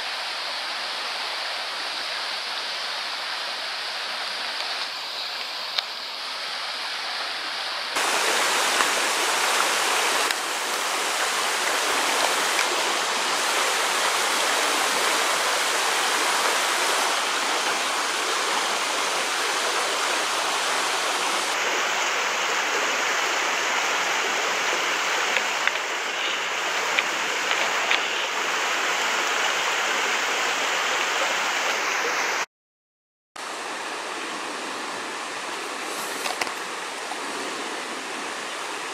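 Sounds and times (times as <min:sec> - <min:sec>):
stream rushing over rocks: 0:00.0 - 0:32.5, 0:33.4 - 0:38.9.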